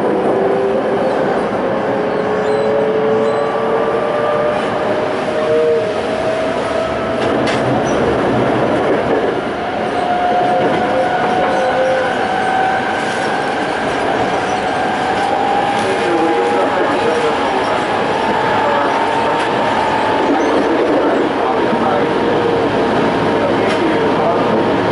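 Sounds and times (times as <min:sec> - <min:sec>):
wheel and rail noise: 0:00.0 - 0:24.9.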